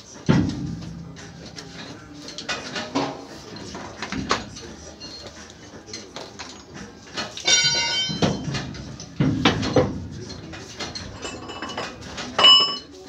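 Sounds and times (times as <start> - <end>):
metal tools clanging: 0.3 - 13.0.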